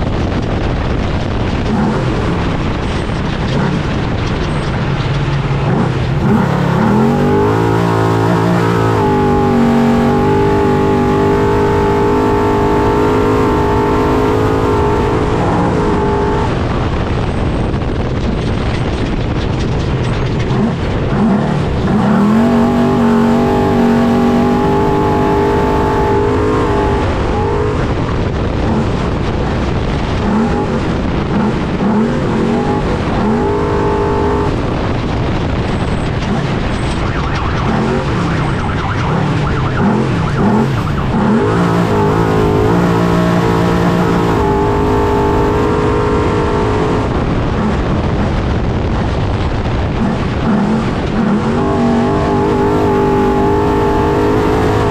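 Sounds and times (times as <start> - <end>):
truck engine revving hard: 0.2 - 18.1, 20.4 - 54.9.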